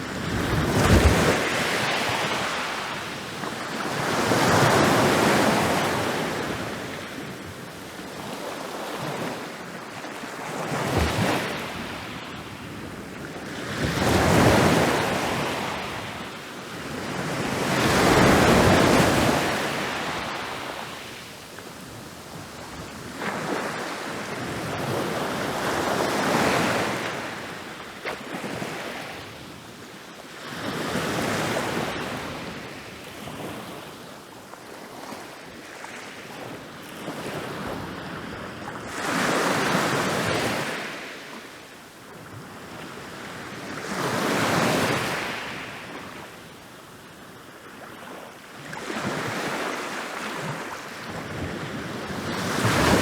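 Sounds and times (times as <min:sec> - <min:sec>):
ocean waves breaking on beach: 0:00.0 - 0:29.6, 0:34.8 - 0:53.0.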